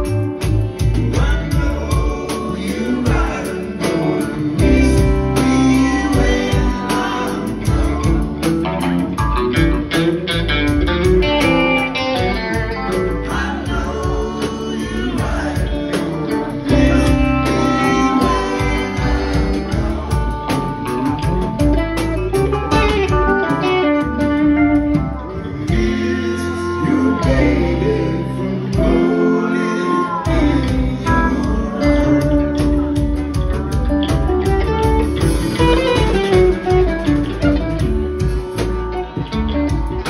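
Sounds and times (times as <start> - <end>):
person singing: 0.0 - 9.9, 11.2 - 40.0
bent gliding guitar notes: 0.0 - 40.0
live rock band playing: 0.0 - 40.0.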